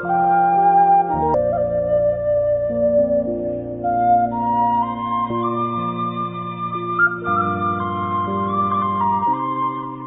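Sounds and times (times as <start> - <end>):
flute playing slow notes: 0.0 - 10.0.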